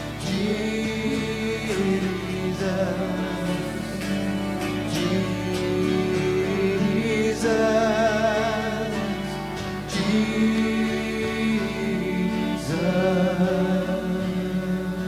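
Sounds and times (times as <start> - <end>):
acoustic guitar strumming: 0.0 - 15.0
violin holding long notes: 0.0 - 15.0.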